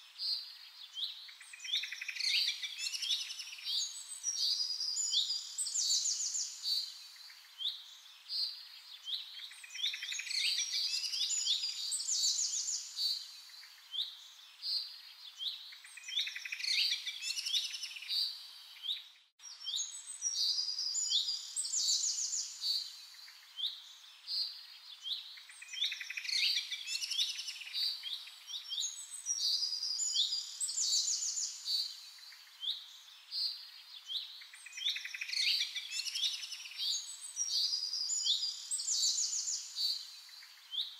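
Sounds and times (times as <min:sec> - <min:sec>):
songbirds chirping and singing: 0:00.2 - 0:40.9.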